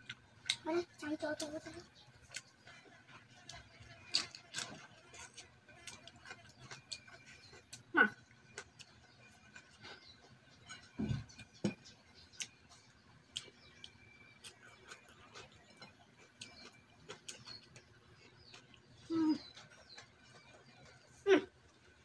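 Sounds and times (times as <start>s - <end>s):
person chewing and eating: 1.4s - 22.0s.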